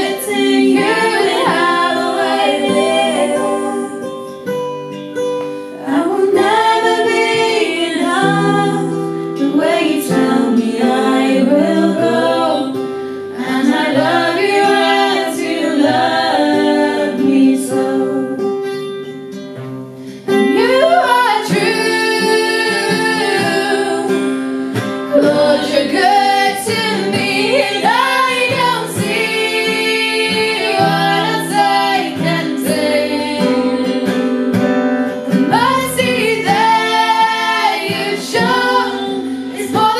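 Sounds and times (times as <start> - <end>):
women singing in harmony: 0.0 - 4.5, 5.6 - 18.6, 20.3 - 39.9
acoustic guitar: 0.0 - 39.9.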